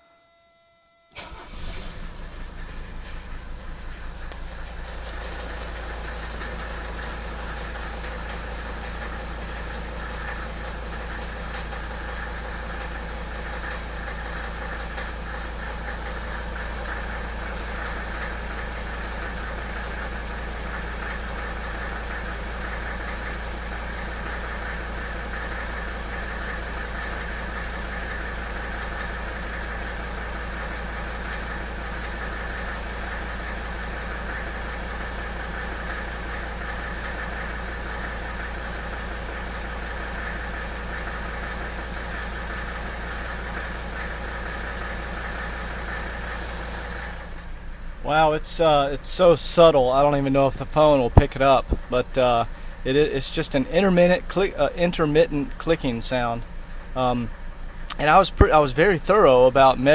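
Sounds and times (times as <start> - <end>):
diesel engine idling: 1.1 - 59.9
clicking from engine: 1.2 - 48.0, 51.1 - 52.8.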